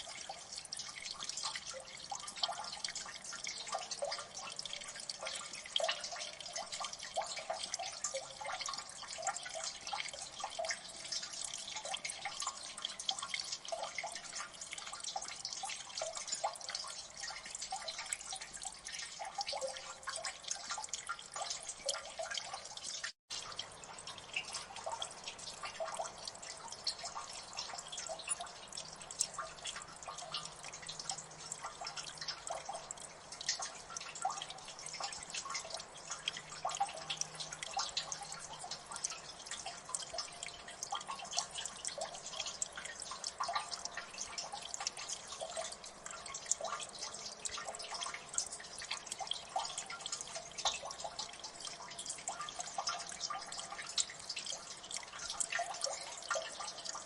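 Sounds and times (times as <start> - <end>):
water dripping into water: 0.0 - 57.0.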